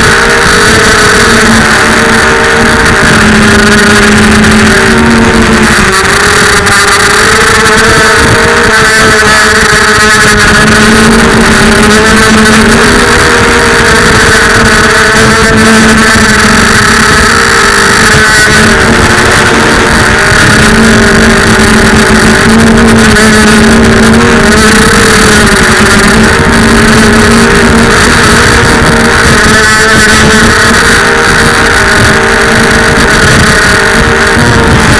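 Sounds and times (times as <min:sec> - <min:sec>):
drone motors whining: 0:00.0 - 0:34.9
wind rush: 0:00.0 - 0:34.9.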